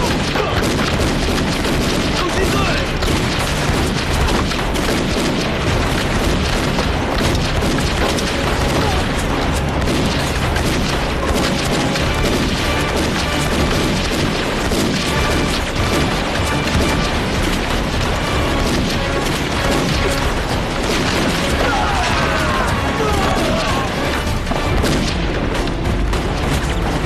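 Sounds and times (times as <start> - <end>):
background music: 0.0 - 27.0
explosions: 0.0 - 27.0
gunfire: 0.0 - 27.0.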